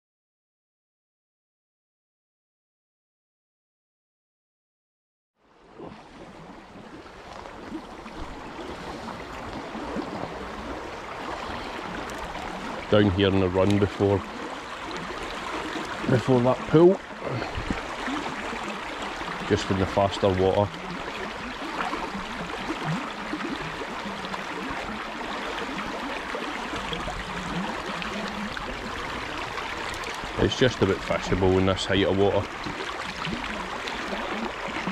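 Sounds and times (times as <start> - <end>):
river water rushing: 5.6 - 34.9.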